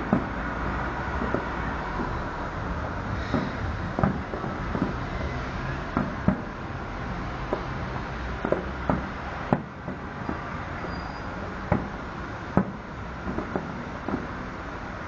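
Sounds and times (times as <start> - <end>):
fireworks bursting bangs: 0.0 - 15.0.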